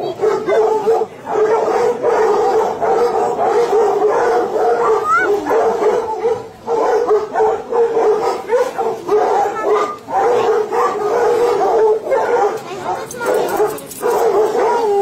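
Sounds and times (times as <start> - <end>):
pack of hounds baying: 0.0 - 15.0
dog yelp: 0.2 - 15.0.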